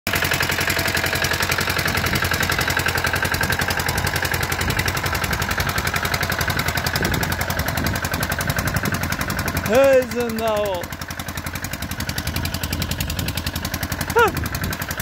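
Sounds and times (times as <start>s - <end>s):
tractor engine chugging: 0.1s - 15.0s.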